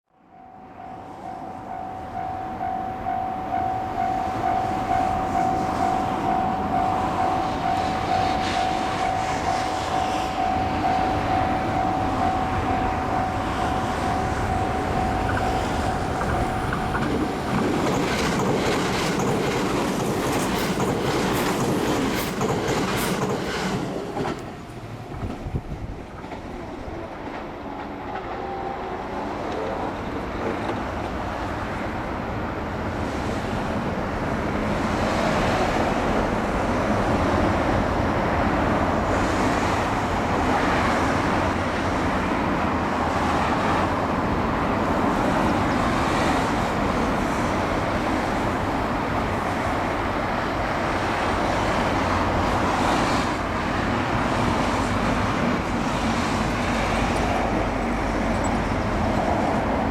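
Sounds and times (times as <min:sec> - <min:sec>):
train rumbling past: 0:00.2 - 0:59.9.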